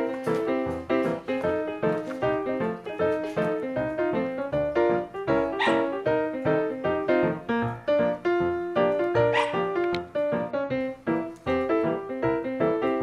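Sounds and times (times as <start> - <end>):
instrumental music: 0.0 - 13.0.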